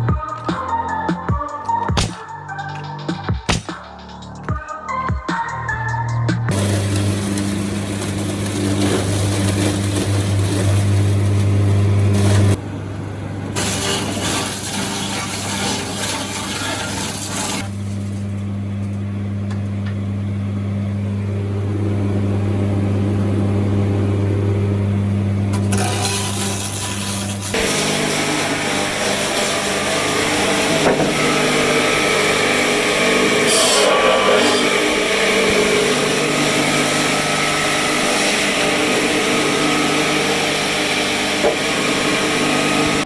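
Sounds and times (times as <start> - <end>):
sawmill machinery humming: 6.5 - 43.0.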